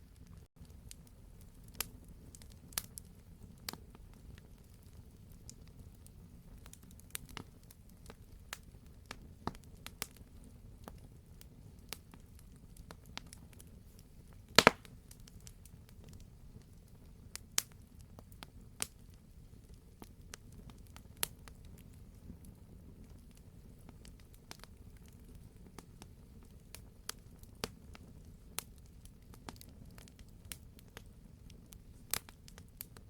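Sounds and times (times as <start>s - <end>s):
wood fire crackling: 0.0s - 33.0s
fire popping: 0.1s - 33.0s.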